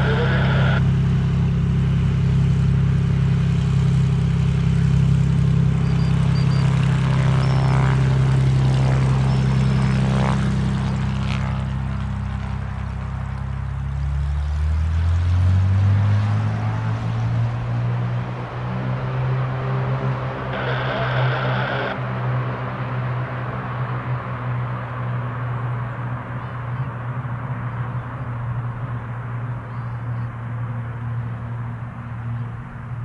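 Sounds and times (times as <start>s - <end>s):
propeller aircraft engine drone: 0.0s - 33.0s.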